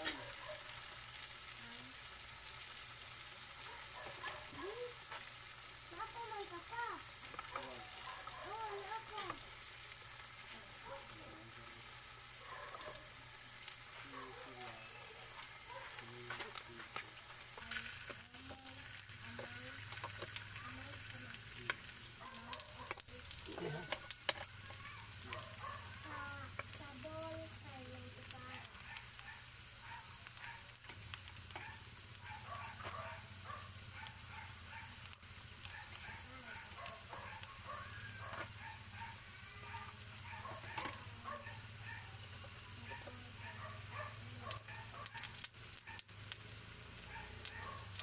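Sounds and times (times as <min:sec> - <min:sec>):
potatoes sizzling in oil: 0:00.0 - 0:48.0.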